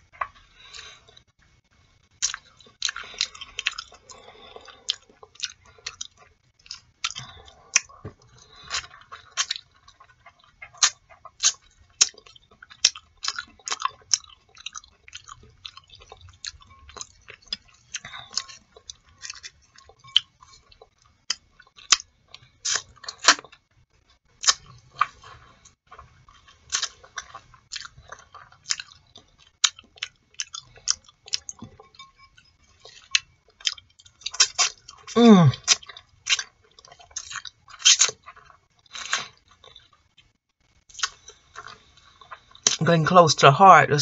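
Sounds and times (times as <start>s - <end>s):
close-miked chewing: 0.0s - 42.8s.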